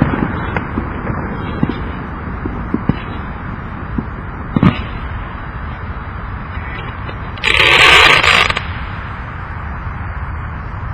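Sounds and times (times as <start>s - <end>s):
fireworks crackling hiss: 0.0s - 9.8s.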